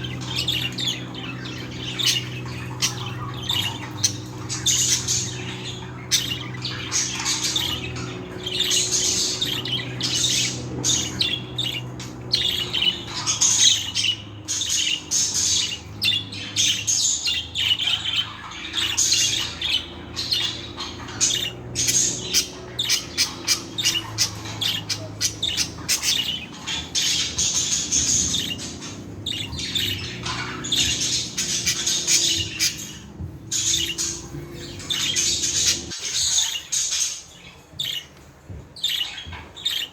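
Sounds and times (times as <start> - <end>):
budgerigars chattering and squawking: 0.0 - 38.2, 38.8 - 39.9
faint low hum: 0.0 - 39.8.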